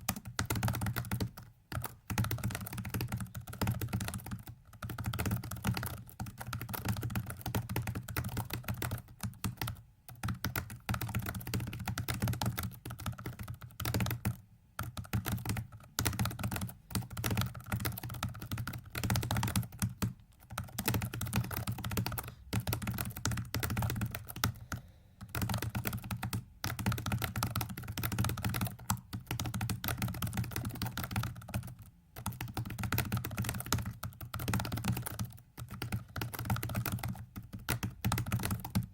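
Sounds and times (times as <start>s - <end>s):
rapid keyboard keypresses: 0.0s - 38.9s.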